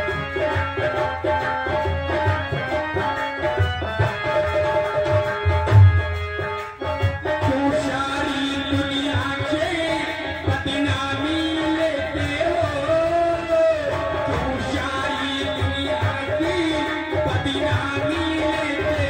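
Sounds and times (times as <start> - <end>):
person singing through loudspeakers: 0.0 - 19.0.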